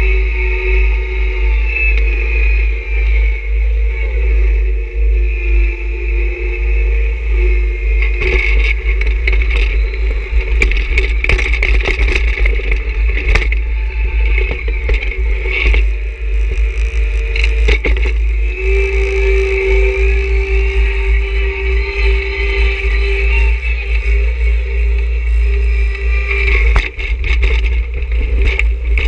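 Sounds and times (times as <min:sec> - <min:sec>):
tractor diesel engine whining: 0:00.0 - 0:29.0.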